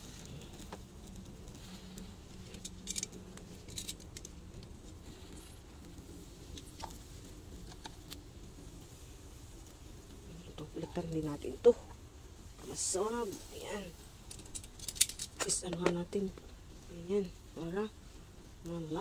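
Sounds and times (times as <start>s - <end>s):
fat crackling on coals: 0.0s - 19.0s
steady low hum: 0.0s - 19.0s.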